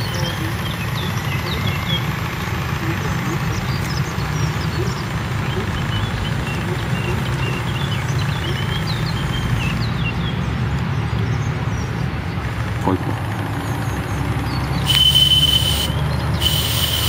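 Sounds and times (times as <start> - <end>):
low outdoor rumble: 0.0 - 17.0
small birds chirping: 0.0 - 17.0.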